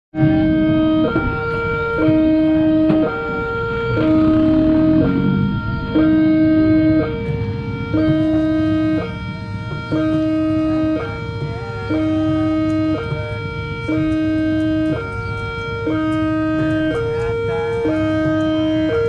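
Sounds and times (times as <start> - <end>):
two-tone level-crossing alarm: 0.2 - 19.0.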